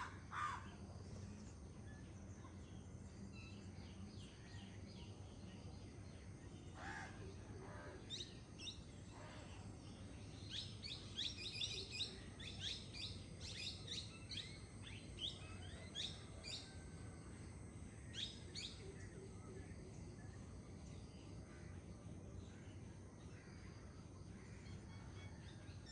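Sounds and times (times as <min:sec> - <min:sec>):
low background rush: 0:00.0 - 0:25.9
songbirds chirping: 0:00.0 - 0:25.9.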